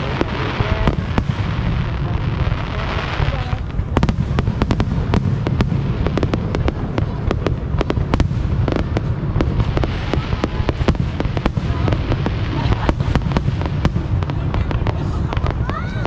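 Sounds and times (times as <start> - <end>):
fireworks cracks and bangs: 0.0 - 16.0
low rumble of bursts: 0.0 - 16.0.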